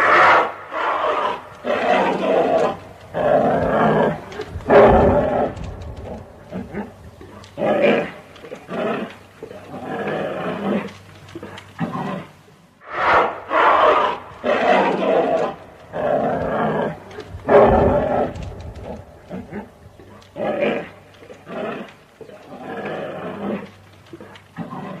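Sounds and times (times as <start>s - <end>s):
bear growling: 0.0s - 25.0s.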